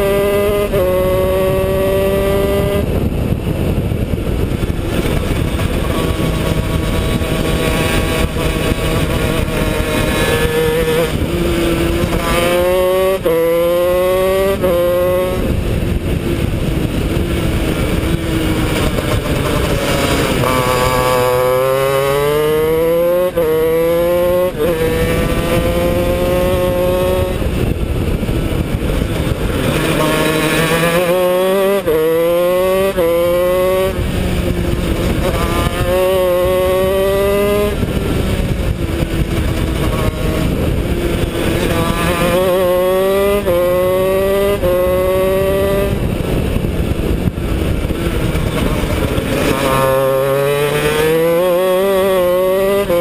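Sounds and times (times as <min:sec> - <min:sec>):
two-stroke kart engine revving: 0:00.0 - 0:53.0.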